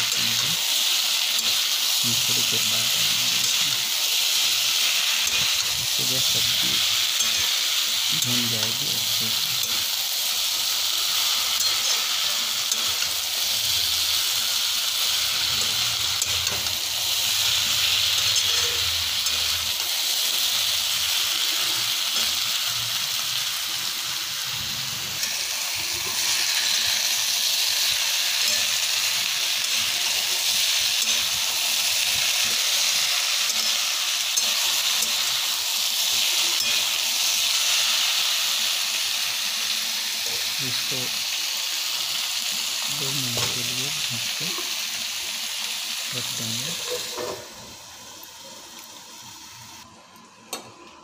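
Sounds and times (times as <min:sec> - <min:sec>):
vegetables sizzling in a pan: 0:00.0 - 0:51.0.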